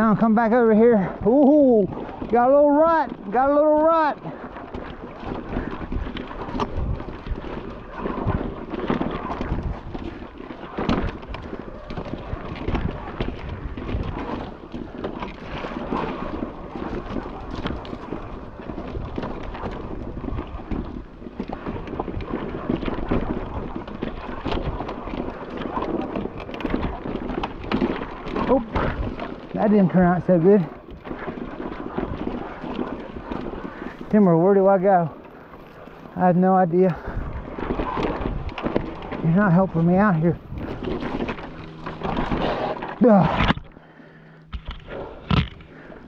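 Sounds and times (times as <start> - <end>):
bike knocking and rattling: 0.0 - 46.0
wind buffeting microphone: 0.0 - 46.0.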